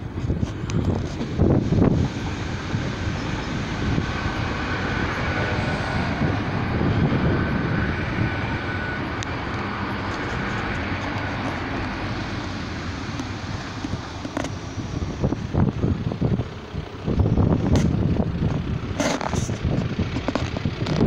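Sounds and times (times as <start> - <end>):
faint train whine: 0.0 - 20.2
train wheels rumbling on rail: 0.0 - 21.0.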